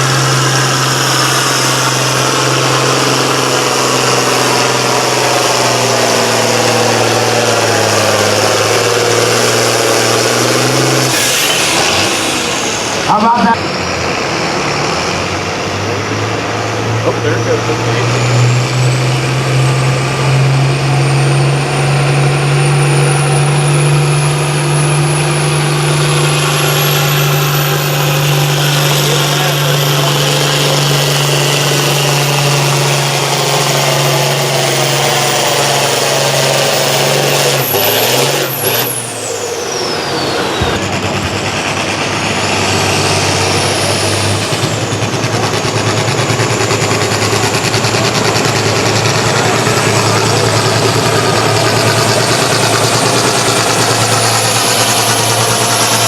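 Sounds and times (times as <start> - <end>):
tractor engine under full load: 0.0 - 56.0.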